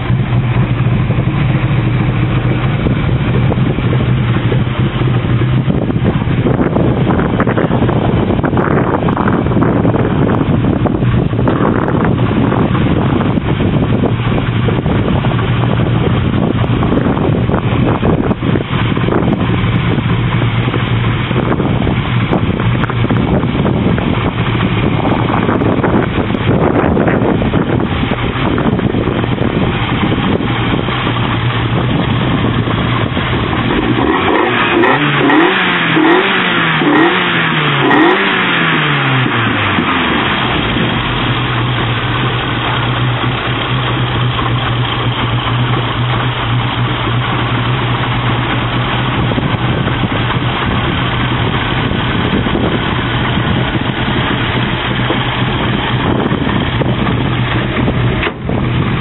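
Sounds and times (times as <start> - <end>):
car engine idling: 0.0 - 59.0
engine throttle blips: 0.0 - 59.0.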